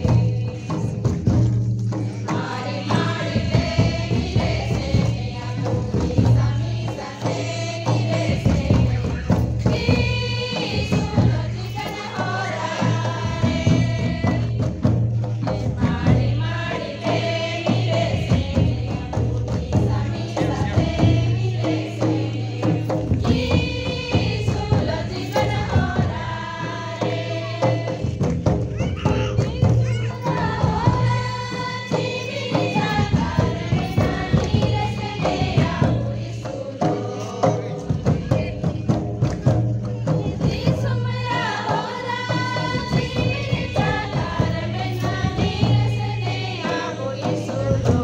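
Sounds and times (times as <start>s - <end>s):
group of voices singing: 0.0s - 48.0s
percussion strokes: 0.0s - 48.0s.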